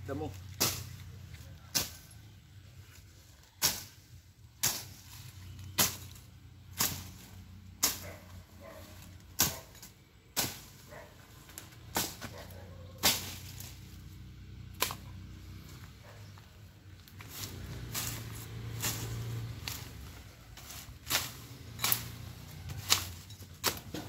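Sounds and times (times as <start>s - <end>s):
blade slashing grass: 0.3s - 2.2s, 3.6s - 10.9s, 11.5s - 14.1s, 14.7s - 15.9s, 17.0s - 24.0s.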